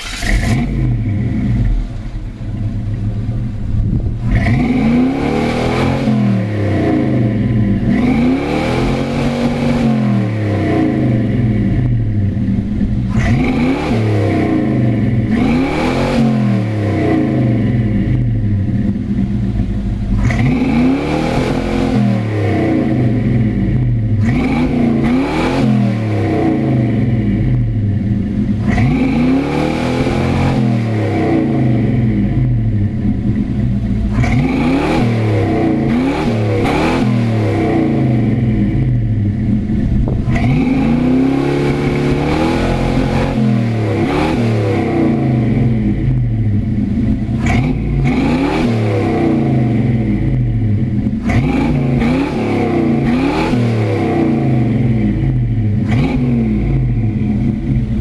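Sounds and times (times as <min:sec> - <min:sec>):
engine revving from idle: 0:00.0 - 0:58.0.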